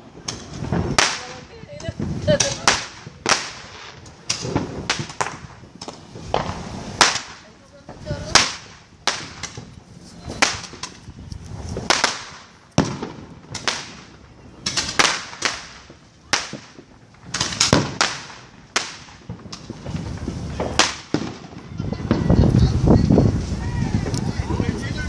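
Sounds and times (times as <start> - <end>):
fireworks and firecrackers banging: 0.0 - 25.0.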